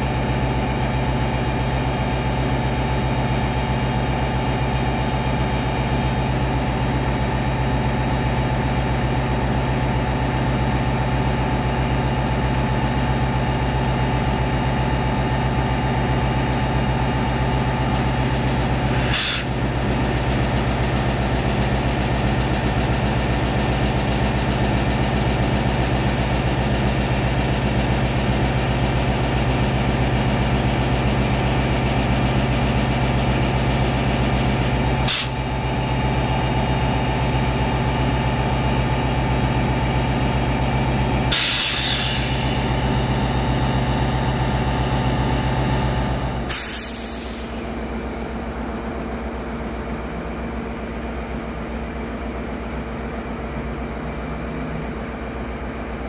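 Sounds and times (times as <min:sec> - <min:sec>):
diesel locomotive engine idling: 0:00.0 - 0:56.0.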